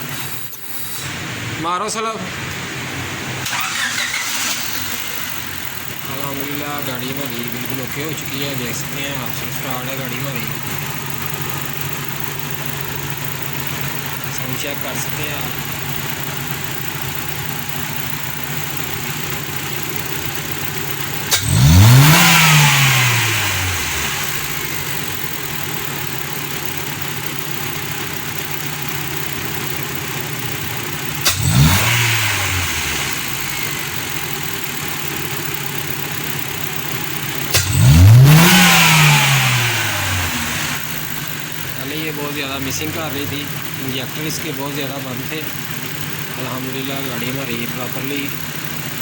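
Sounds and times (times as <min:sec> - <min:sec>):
car engine idling and revving: 0:02.3 - 0:49.0.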